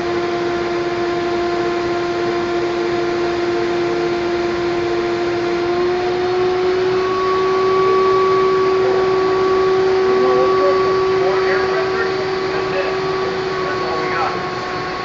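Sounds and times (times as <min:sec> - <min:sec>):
air supply motor whine: 0:00.0 - 0:15.0.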